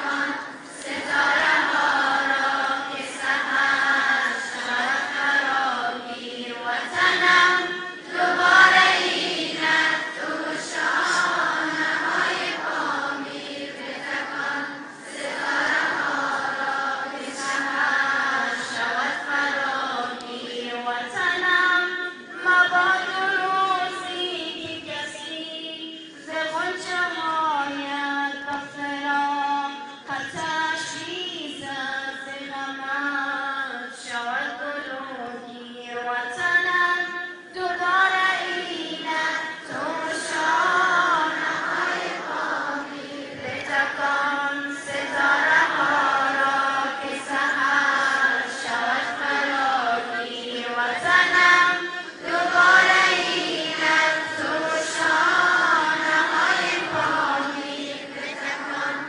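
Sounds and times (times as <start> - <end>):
children singing in unison: 0.0 - 35.5, 36.2 - 59.0.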